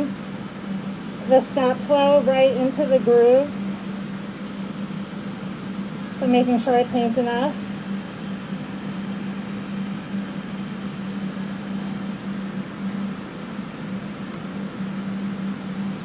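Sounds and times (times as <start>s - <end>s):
constant hum: 0.0s - 16.0s
fans rushing air: 0.0s - 16.0s.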